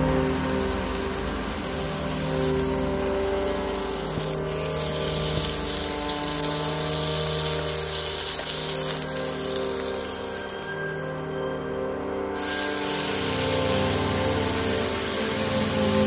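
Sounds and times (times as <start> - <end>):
beef sizzling in a hot pan: 0.1 - 10.9, 12.4 - 16.0.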